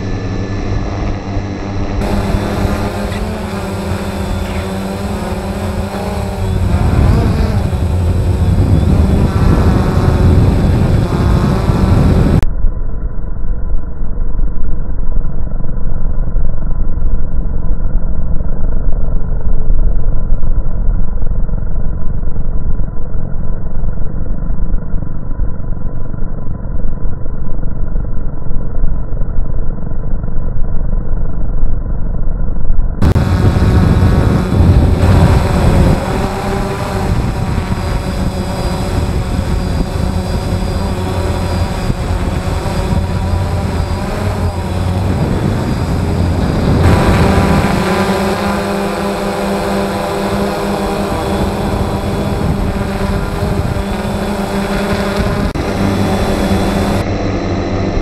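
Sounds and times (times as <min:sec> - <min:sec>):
drone motors and propellers whining: 0:00.0 - 0:58.0.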